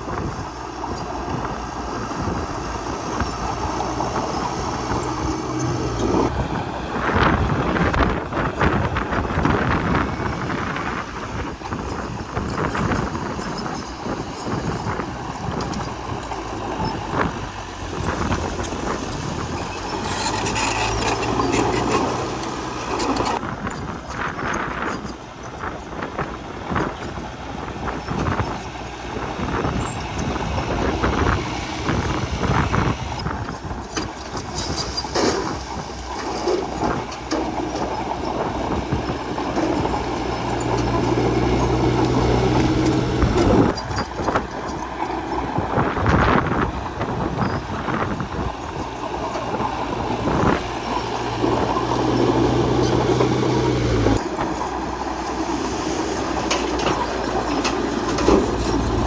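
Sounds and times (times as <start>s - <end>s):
bulldozer diesel engine: 0.0s - 59.0s
steel tracks clattering: 0.0s - 59.0s.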